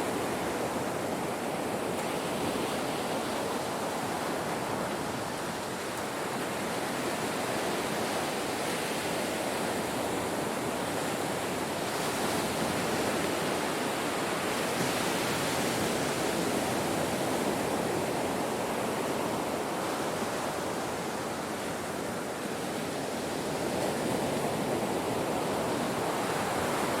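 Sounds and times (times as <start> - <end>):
ocean surf on shore: 0.0 - 27.0.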